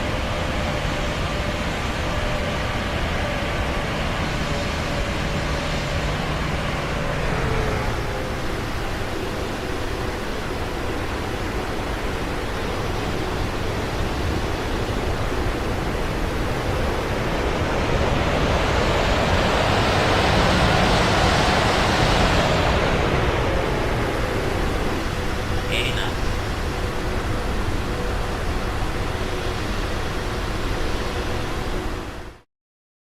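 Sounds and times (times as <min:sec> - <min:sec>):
airplane roar: 0:00.0 - 0:32.4.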